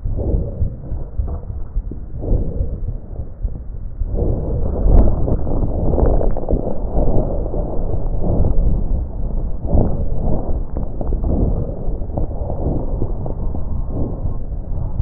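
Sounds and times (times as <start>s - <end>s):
constant low rumble: 0.0s - 15.0s
muffled breath sounds: 0.0s - 15.0s.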